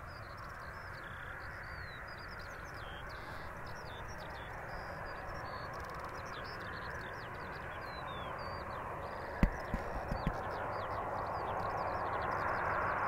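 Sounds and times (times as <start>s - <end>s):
small birds chirping: 0.0s - 12.9s
distant jet engines humming: 0.0s - 13.0s.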